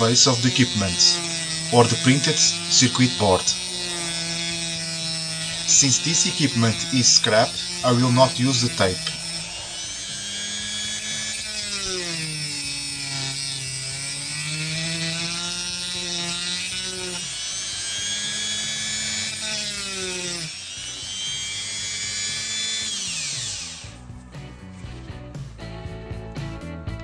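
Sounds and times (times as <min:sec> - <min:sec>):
rotary tool grinding metal: 0:00.0 - 0:25.2.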